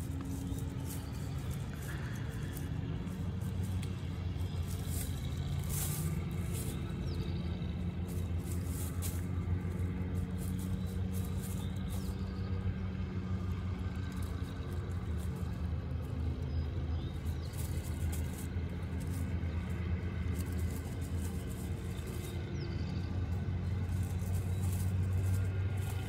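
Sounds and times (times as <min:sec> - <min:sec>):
dry leaves crackling: 0:00.0 - 0:26.0
low engine hum: 0:00.0 - 0:26.0.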